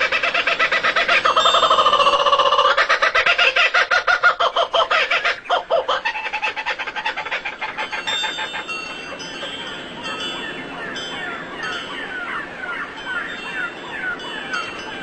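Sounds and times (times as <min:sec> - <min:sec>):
bird calls: 0:00.0 - 0:15.0.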